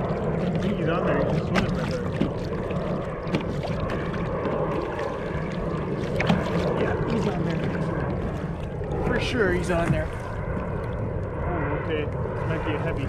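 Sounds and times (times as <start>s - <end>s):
water lapping against kayak hull: 0.0s - 13.0s
wind rumble on microphone: 0.0s - 13.0s.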